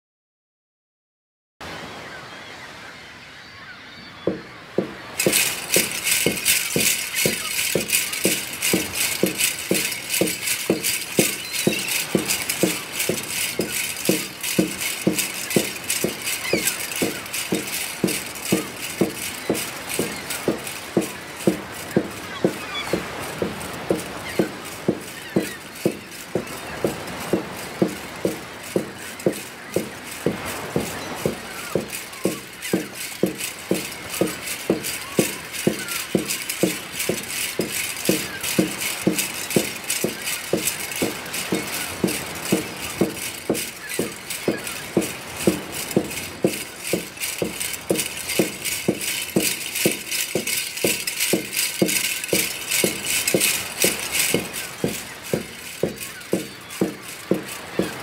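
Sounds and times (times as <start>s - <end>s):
rattling jingling hand percussion: 4.8s - 58.0s.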